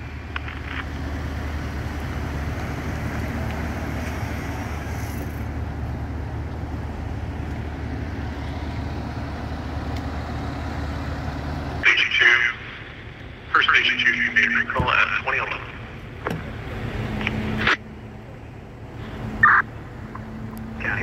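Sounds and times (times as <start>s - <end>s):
engine and road hiss: 0.0s - 21.0s
engines idling: 0.0s - 21.0s.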